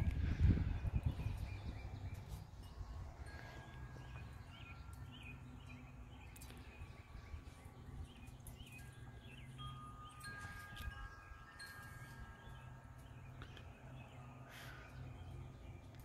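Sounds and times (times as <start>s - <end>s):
small birds chirping: 0.0s - 16.0s
wind chimes ringing: 0.0s - 16.0s.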